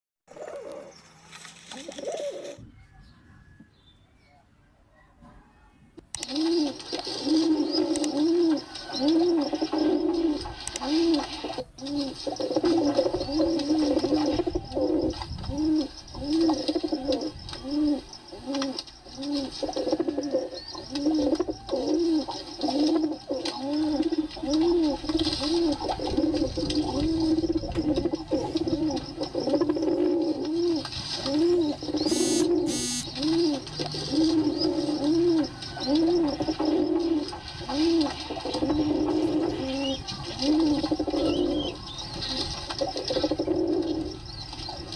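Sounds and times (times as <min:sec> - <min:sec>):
pigeons cooing: 0:00.3 - 0:01.0, 0:01.6 - 0:02.6, 0:06.2 - 0:44.9.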